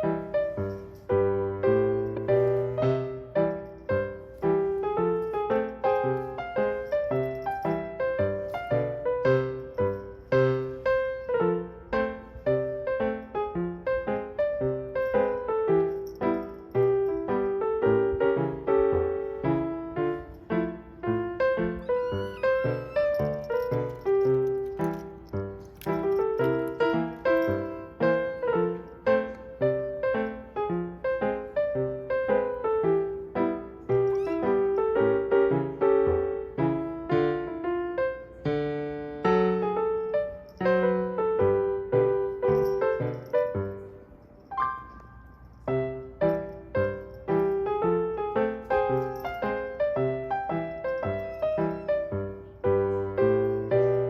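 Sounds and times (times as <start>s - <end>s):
solo piano melody: 0.0s - 54.0s.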